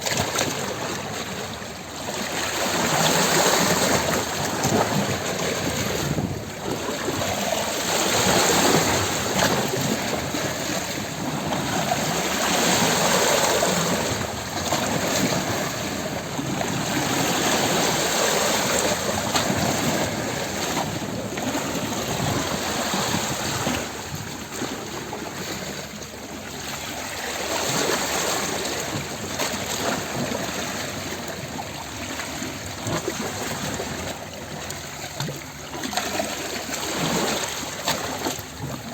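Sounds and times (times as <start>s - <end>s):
ocean waves surf: 0.0s - 38.9s.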